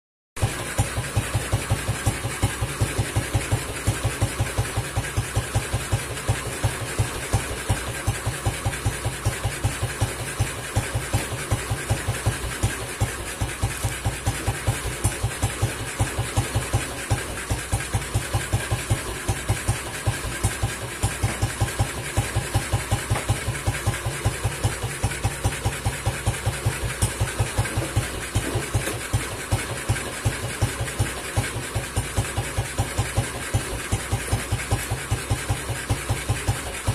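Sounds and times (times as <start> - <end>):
motorcycle engine idling: 0.4 - 36.9.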